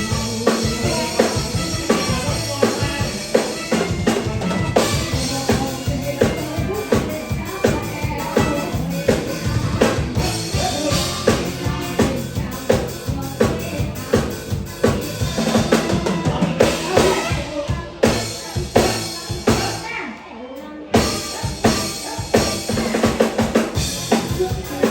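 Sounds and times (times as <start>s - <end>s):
drum kit played fast: 0.0s - 20.0s, 21.0s - 24.9s
band music with bass line: 0.0s - 24.9s.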